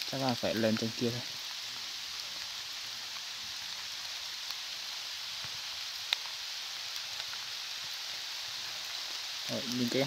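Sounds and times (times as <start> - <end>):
heavy rain on foliage: 0.0 - 10.0.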